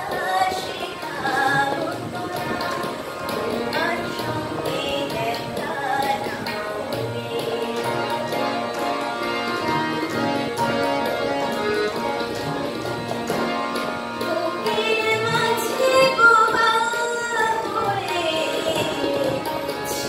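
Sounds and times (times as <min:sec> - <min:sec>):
woman singing: 0:00.0 - 0:09.2, 0:12.0 - 0:20.0
harmonium chords: 0:00.0 - 0:20.0.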